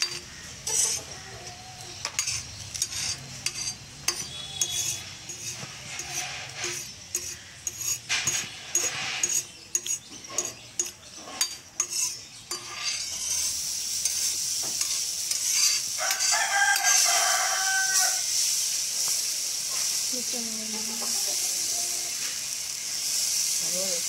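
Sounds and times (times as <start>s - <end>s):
batter sizzling on hot griddle: 0.0s - 24.0s.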